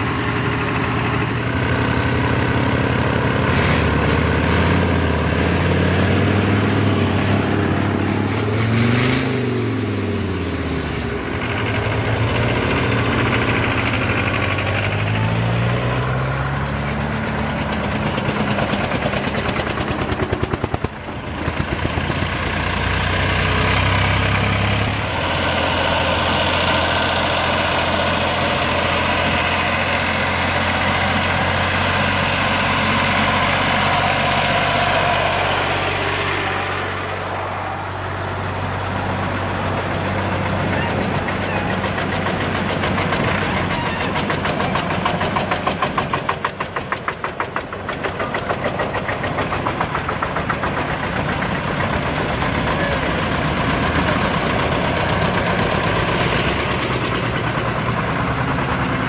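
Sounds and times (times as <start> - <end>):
engine revving: 0.0 - 59.0
vehicle engines idling: 0.0 - 59.0.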